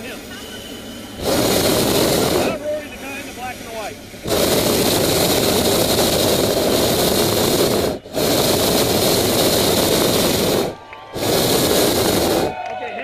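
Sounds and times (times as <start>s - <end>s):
propane burner roaring: 0.0s - 13.0s.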